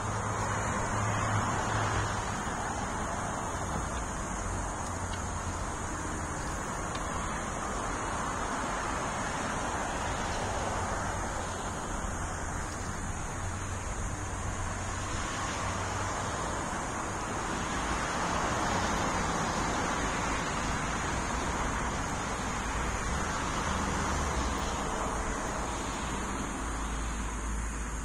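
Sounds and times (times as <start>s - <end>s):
passing vehicles hiss: 0.0s - 28.0s.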